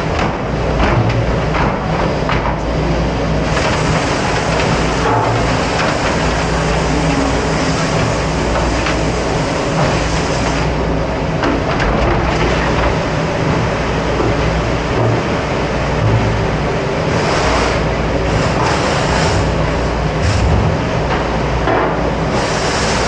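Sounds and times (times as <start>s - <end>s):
dish machine rushing hum: 0.0s - 23.0s.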